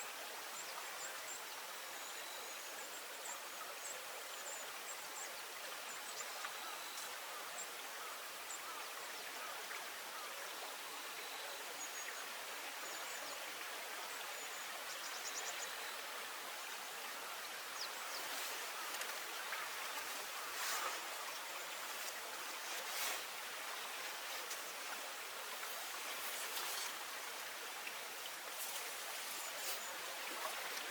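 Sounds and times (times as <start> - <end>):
river water flowing: 0.0 - 30.9.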